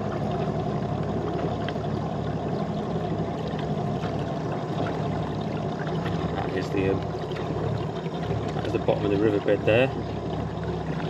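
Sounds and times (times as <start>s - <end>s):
boat motor humming: 0.0s - 11.0s
water washing: 0.0s - 11.0s.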